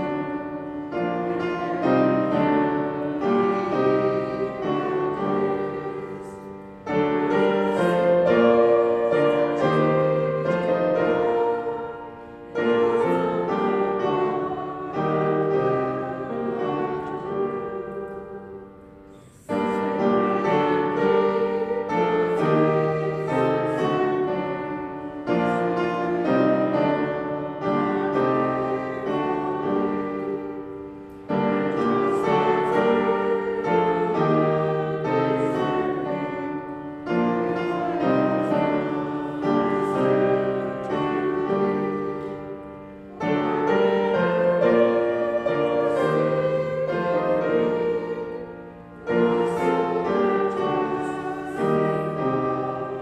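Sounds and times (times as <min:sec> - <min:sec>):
piano playing slow hymn: 0:00.0 - 0:53.0.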